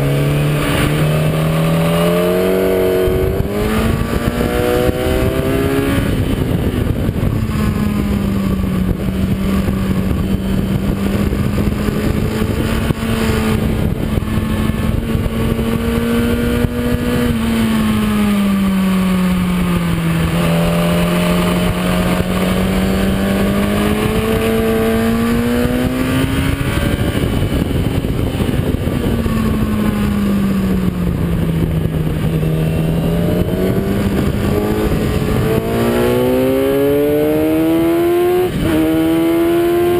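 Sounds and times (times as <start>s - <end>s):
motorcycle engine at speed: 0.0s - 39.9s
wind noise rushing: 0.0s - 39.9s.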